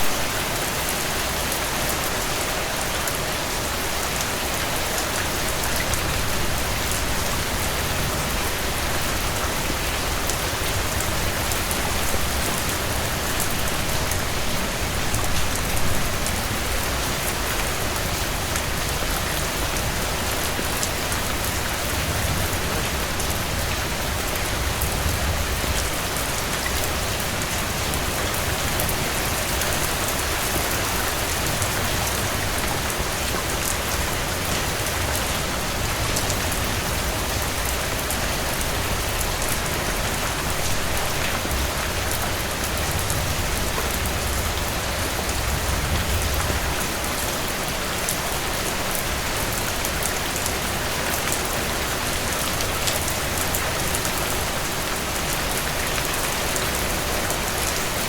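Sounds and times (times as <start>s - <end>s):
heavy rain on a porch: 0.0s - 58.0s
sharp ticks of raindrops: 0.3s - 58.0s.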